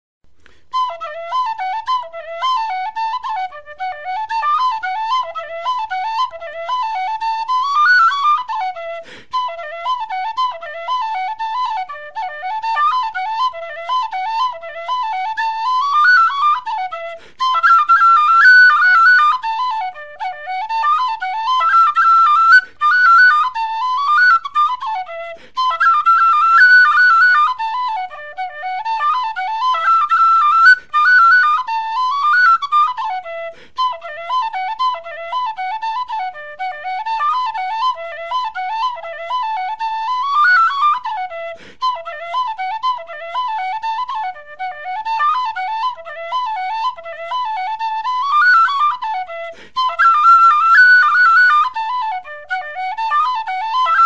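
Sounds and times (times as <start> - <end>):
solo whistle melody: 0.7 - 54.0.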